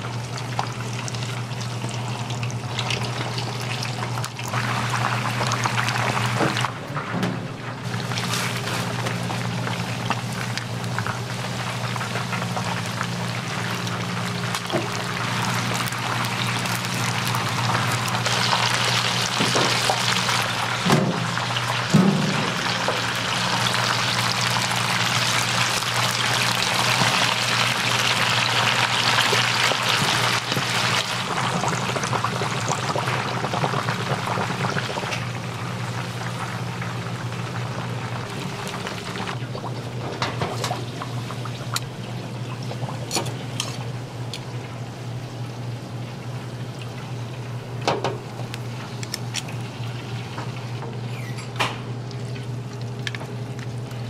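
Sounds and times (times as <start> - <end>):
hot oil sizzling: 0.0 - 6.7, 7.6 - 54.0.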